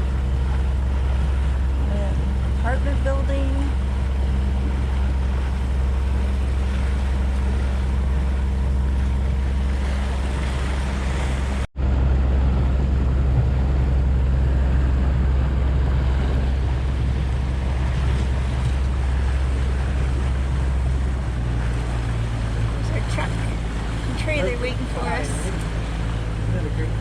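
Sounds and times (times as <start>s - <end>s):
motorboat engine drone: 0.0s - 27.0s
water noise: 0.0s - 27.0s.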